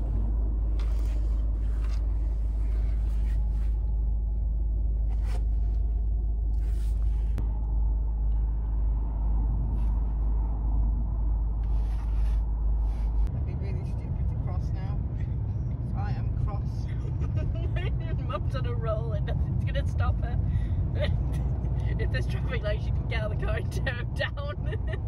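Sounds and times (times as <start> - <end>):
car cabin rumble: 0.0 - 25.0.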